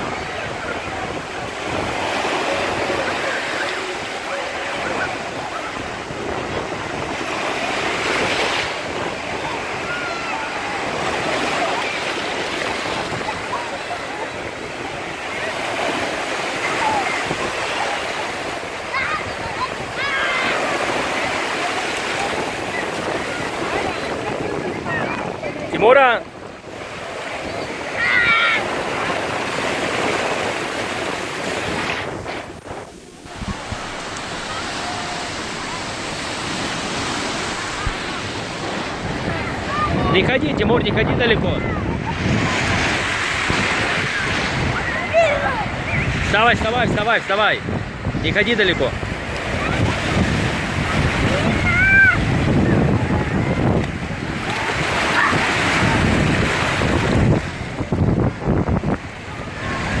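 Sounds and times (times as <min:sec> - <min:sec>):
surf washing on shore: 0:00.0 - 1:00.0
wind buffeting microphone: 0:00.0 - 1:00.0.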